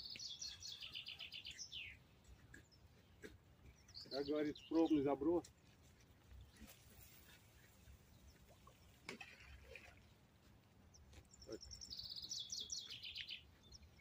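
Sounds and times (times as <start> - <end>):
songbird trill: 0.0 - 9.0, 10.8 - 14.0.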